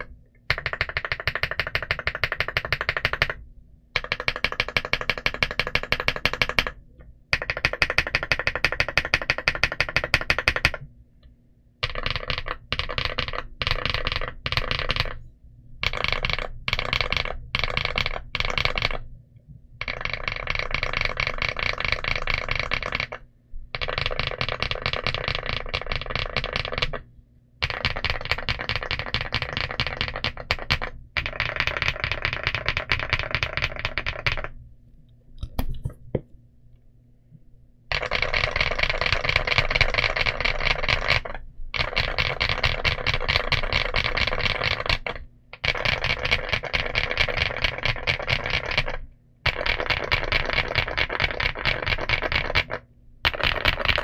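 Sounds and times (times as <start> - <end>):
fast typing on mechanical keyboard: 0.0 - 3.4, 4.0 - 10.9, 11.8 - 15.2, 15.8 - 19.1, 19.8 - 23.2, 23.8 - 27.0, 27.6 - 34.6, 37.9 - 54.0.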